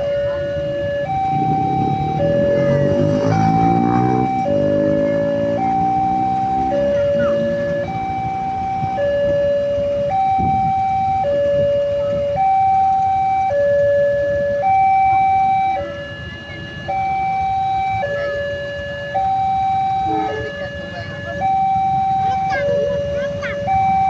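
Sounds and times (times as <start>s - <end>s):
two-tone siren: 0.0s - 24.0s.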